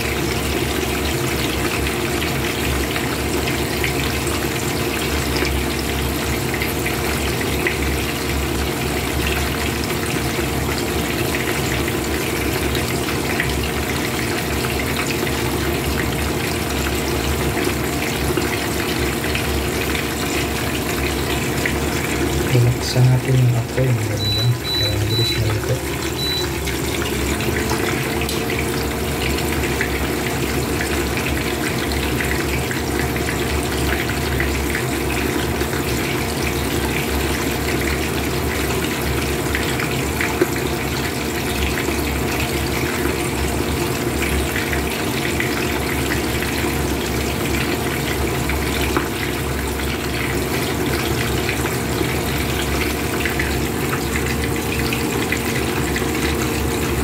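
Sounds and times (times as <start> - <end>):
hot oil sizzling around frying fish: 0.0 - 57.0.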